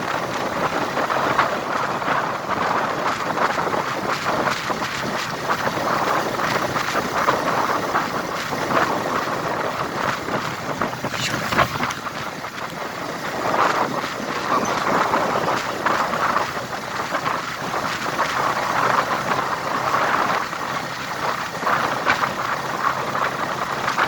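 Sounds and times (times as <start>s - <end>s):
vehicle moving on road: 0.0s - 24.0s
wind noise on microphone: 0.0s - 24.0s.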